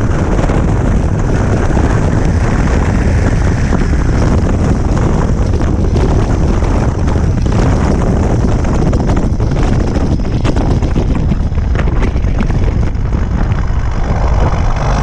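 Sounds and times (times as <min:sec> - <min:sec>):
tractor diesel engine running: 0:00.0 - 0:15.0
wind buffeting microphone: 0:00.0 - 0:15.0.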